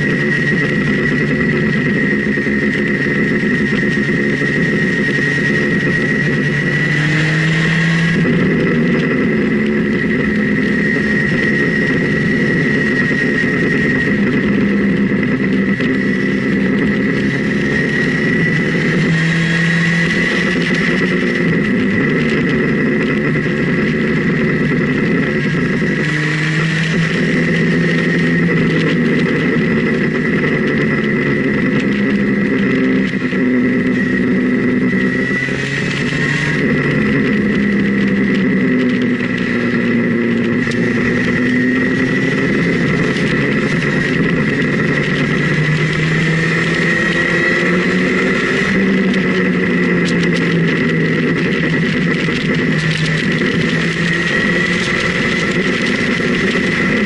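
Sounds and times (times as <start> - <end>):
high whine: 0.0 - 57.0
motorcycle engine revving: 0.0 - 57.0.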